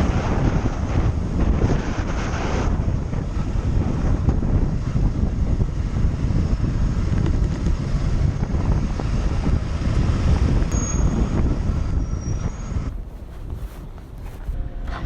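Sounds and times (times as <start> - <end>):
traffic noise: 0.0 - 15.0
wind buffeting microphone: 0.0 - 15.0.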